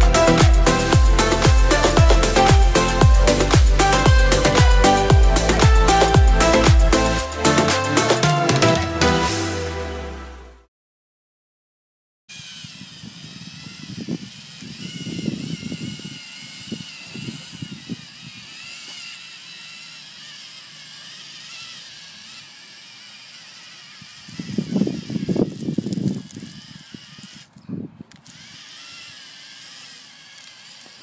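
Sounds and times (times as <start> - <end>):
electric motors whining: 0.0 - 10.6, 12.3 - 31.0.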